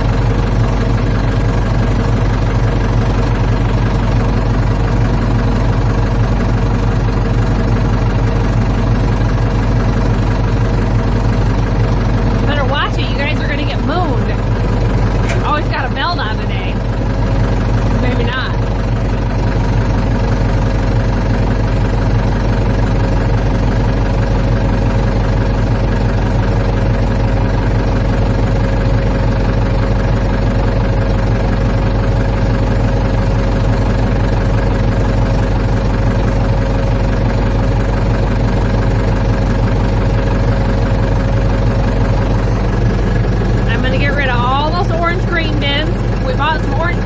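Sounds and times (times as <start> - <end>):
backhoe engine running: 0.0 - 47.0.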